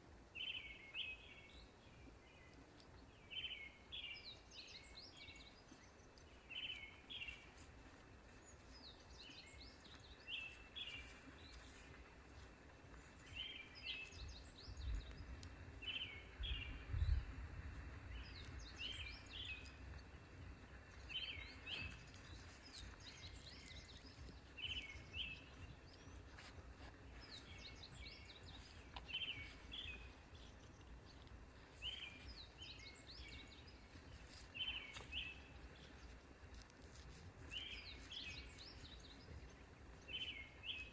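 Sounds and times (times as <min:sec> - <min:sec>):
small birds chirping: 0:00.3 - 0:40.9.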